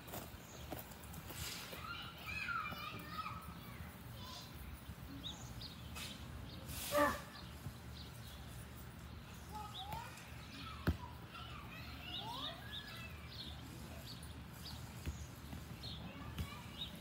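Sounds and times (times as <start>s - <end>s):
low steady outdoor hum: 0.0s - 17.0s
birds chirping and singing: 1.8s - 17.0s.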